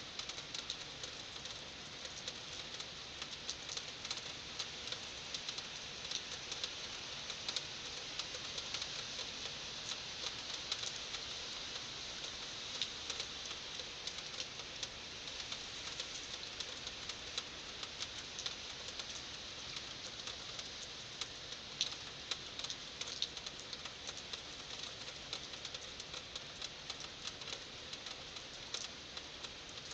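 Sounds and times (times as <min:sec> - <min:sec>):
raindrops pattering on hard surfaces: 0:00.0 - 0:29.9
heavy rain falling: 0:00.1 - 0:29.9.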